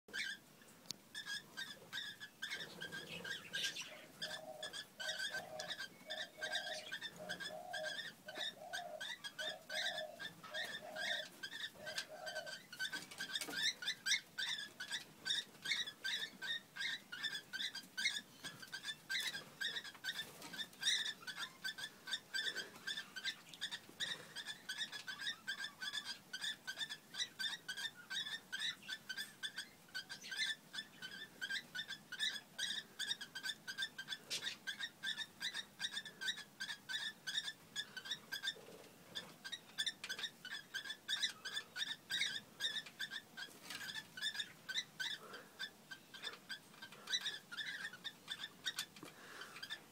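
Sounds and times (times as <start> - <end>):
cockatiels chirping rapidly: 0.1 - 0.4, 1.1 - 49.9.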